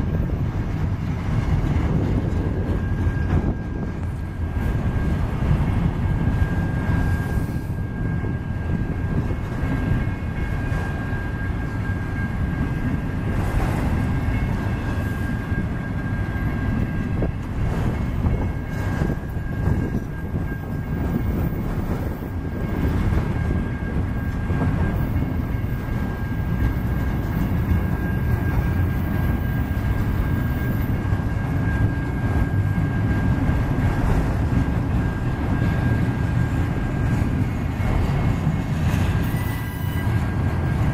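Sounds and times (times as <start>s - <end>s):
steel wheels rumbling on rail: 0.0s - 40.9s.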